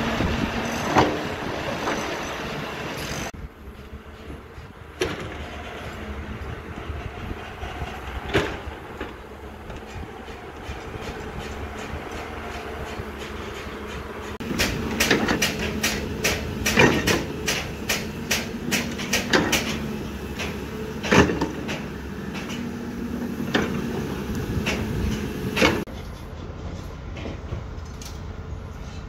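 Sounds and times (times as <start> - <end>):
machine engine hum: 0.0 - 26.2
construction site noise: 0.0 - 29.0
sharp clanks and knocks: 0.5 - 2.4, 3.0 - 28.3.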